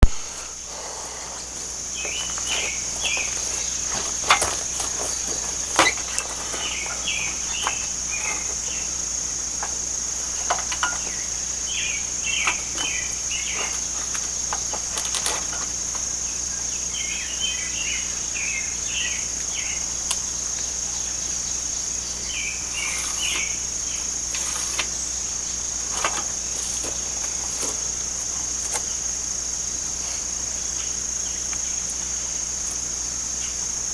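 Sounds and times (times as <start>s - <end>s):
bird chirping: 0.0s - 29.2s
insects chirring: 0.0s - 33.9s.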